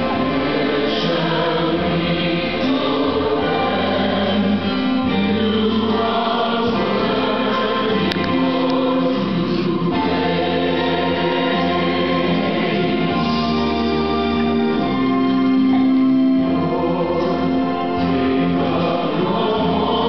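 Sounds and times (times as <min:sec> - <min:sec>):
choir singing gospel music: 0:00.0 - 0:20.0.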